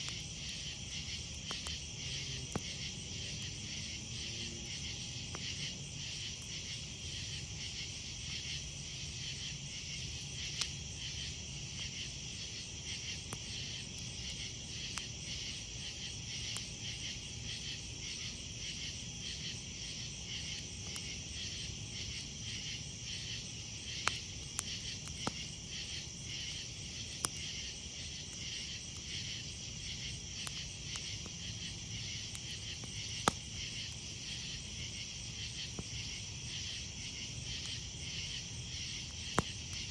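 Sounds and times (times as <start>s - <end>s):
campfire popping: 0.0s - 39.9s
night insects chirping: 0.0s - 39.9s.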